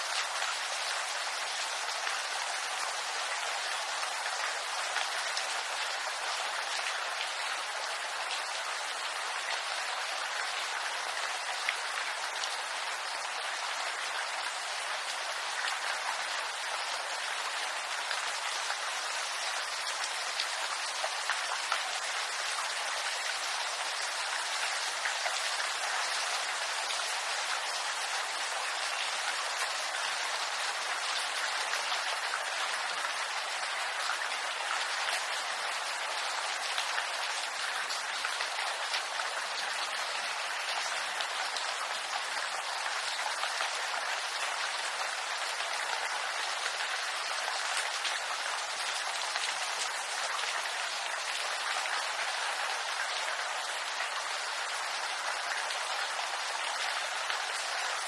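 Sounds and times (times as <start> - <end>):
rain on bamboo leaves: 0.0 - 58.0.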